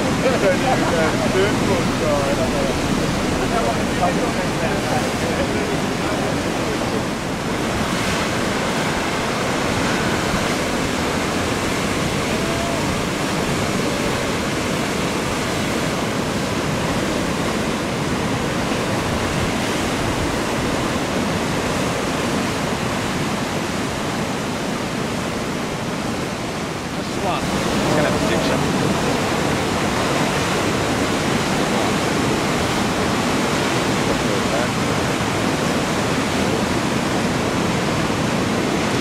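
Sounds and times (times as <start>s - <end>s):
ocean waves breaking: 0.0s - 39.0s.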